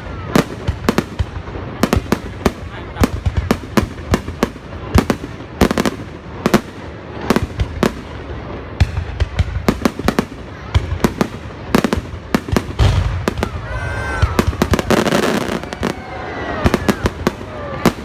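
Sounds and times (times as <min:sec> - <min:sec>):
distant fireworks rumble: 0:00.0 - 0:18.0
fireworks sharp bangs: 0:00.0 - 0:18.0.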